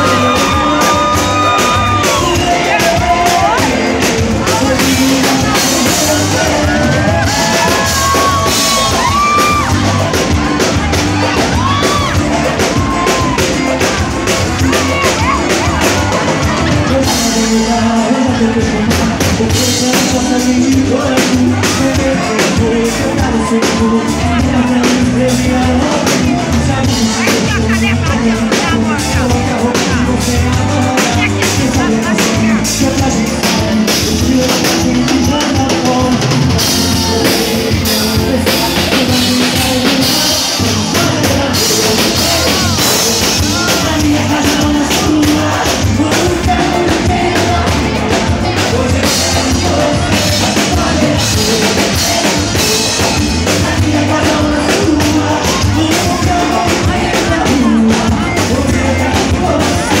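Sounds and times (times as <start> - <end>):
drum kit beat: 0.0 - 60.0
live band music: 0.0 - 60.0
man singing into microphone: 0.0 - 60.0.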